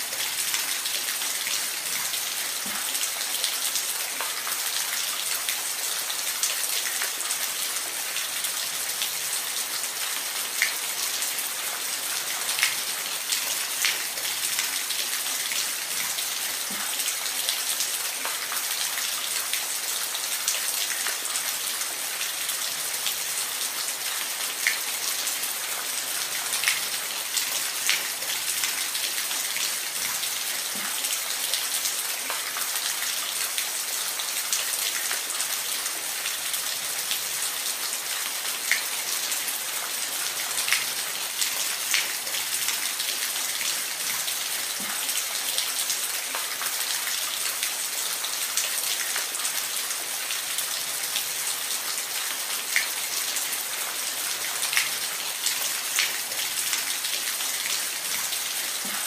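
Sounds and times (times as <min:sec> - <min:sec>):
water drips and splashes: 0:00.0 - 0:59.0.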